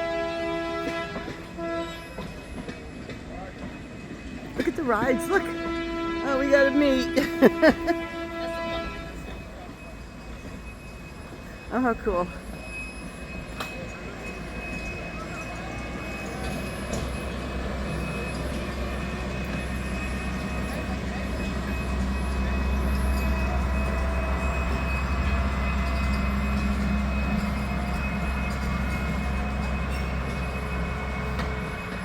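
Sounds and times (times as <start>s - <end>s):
train running on track: 0.0s - 32.0s.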